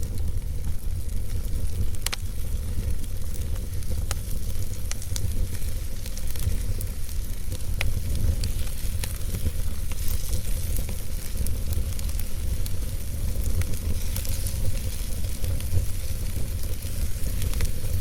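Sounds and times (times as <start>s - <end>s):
log fire crackling and popping: 0.0s - 18.0s.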